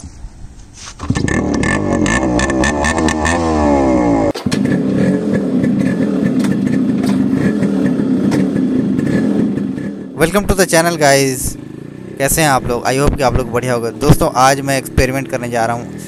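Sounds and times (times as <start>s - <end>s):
motorcycle engine revving: 1.0s - 16.0s.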